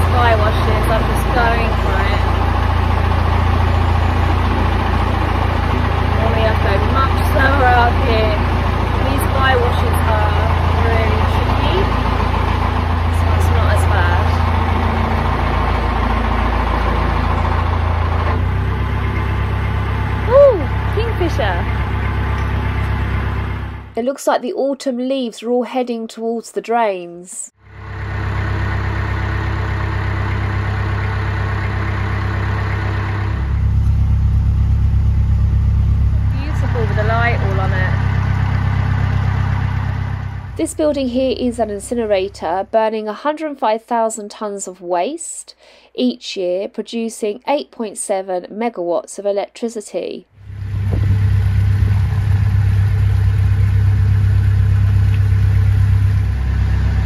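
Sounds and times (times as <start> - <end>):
boat diesel engine running: 0.0 - 24.0, 27.6 - 43.2, 50.4 - 57.0.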